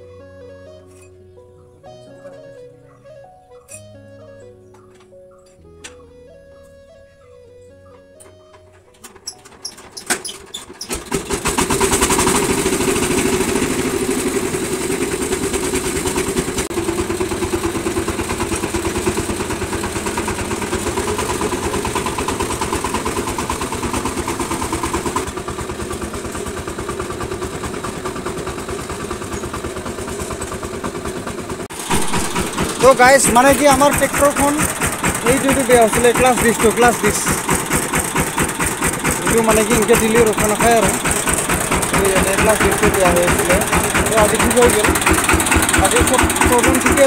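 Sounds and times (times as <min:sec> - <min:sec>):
diesel engine cranking: 0:01.9 - 0:47.0
diesel engine running: 0:04.0 - 0:47.0.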